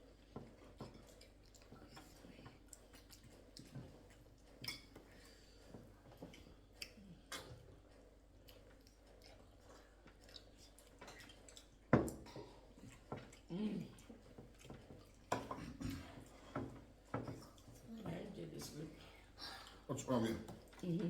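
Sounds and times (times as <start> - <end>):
people chewing: 0.0 - 21.0.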